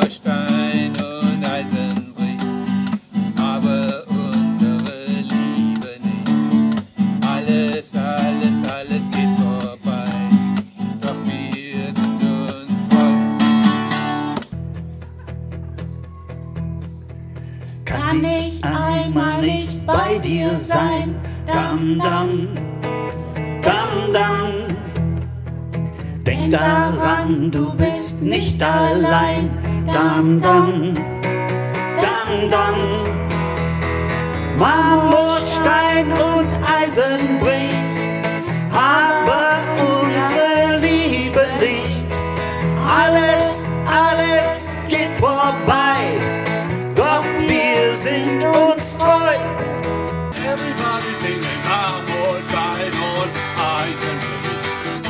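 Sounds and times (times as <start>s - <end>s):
man singing: 0.0s - 13.6s, 17.9s - 22.7s, 23.6s - 25.0s, 26.2s - 31.1s, 31.9s - 33.3s, 34.5s - 49.7s, 50.3s - 55.0s
acoustic guitar: 0.0s - 55.0s.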